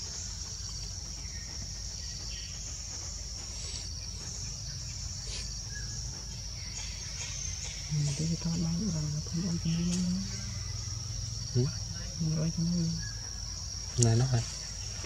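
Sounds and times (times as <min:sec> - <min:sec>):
high-pitched insect chorus: 0:00.0 - 0:15.0
low background rumble: 0:00.0 - 0:15.0.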